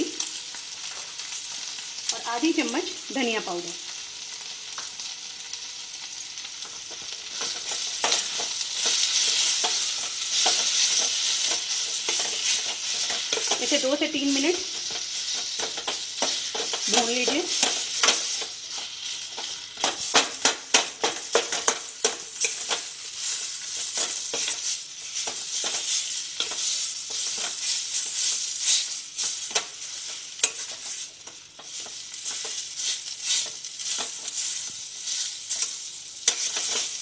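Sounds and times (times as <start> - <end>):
food sizzling in oil: 0.0 - 37.0
spatula scraping metal pan: 7.0 - 37.0.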